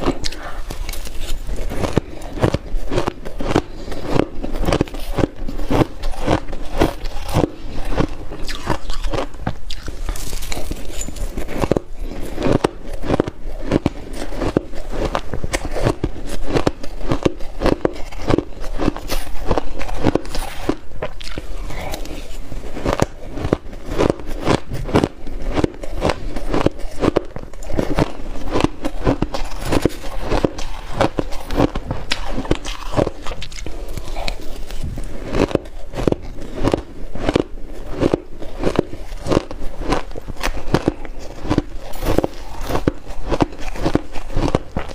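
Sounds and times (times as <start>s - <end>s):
chewing crunchy shaved ice: 0.0s - 44.9s.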